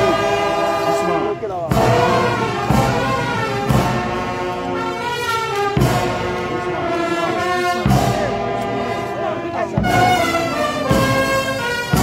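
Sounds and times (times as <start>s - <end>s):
brass band playing chords: 0.0s - 12.0s.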